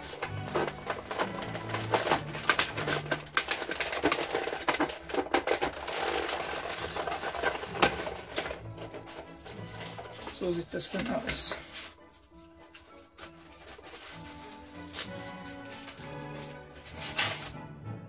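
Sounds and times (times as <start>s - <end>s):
background music with low notes: 0.0s - 18.0s.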